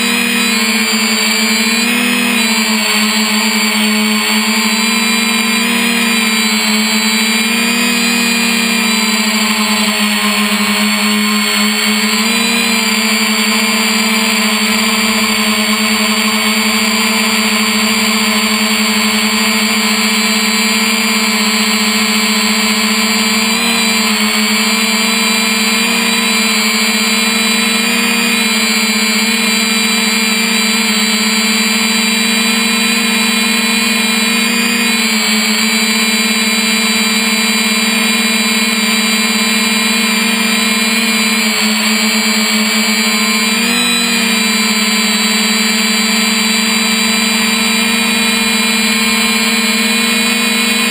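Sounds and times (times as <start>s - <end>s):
drone motors buzzing: 0.0s - 50.9s.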